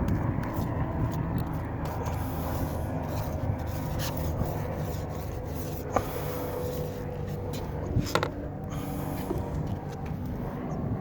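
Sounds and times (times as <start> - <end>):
applicator scraping and rubbing: 0.0 - 10.4
steady low hum: 0.0 - 11.0.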